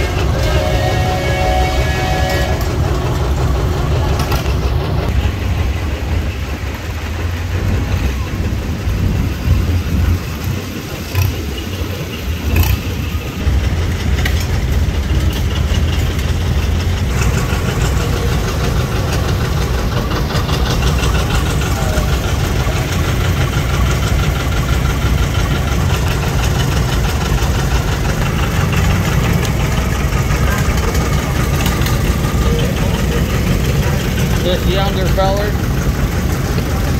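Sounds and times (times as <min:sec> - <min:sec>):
engine rapid firing beat: 0:00.0 - 0:36.9
tractor engines running: 0:00.0 - 0:36.9.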